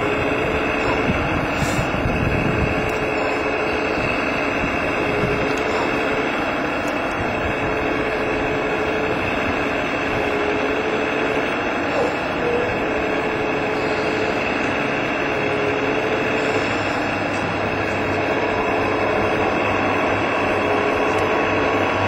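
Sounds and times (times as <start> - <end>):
model excavator mechanical drone: 0.0 - 22.0
thin whine: 0.0 - 22.0.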